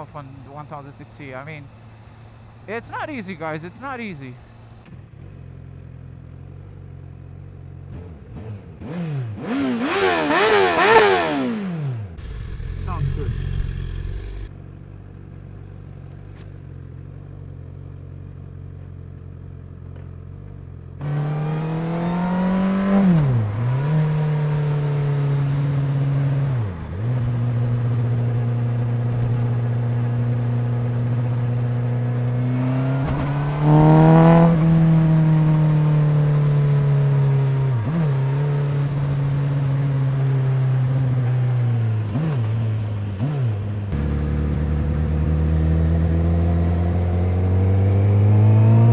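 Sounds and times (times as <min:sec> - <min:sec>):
motorcycle engine revving: 0:02.7 - 0:18.9, 0:19.9 - 0:48.9.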